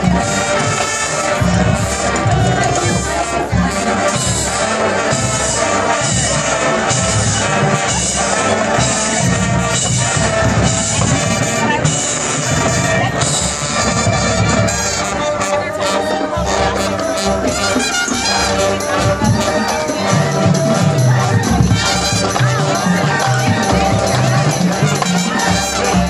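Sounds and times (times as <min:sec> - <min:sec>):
marching band brass: 0:00.0 - 0:26.0
steady drum beat: 0:00.0 - 0:26.0.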